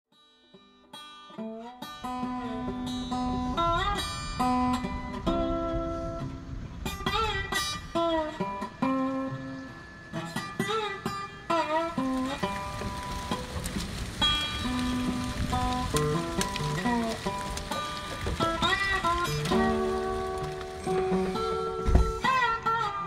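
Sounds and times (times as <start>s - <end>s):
acoustic guitar plucking: 0.1s - 23.0s.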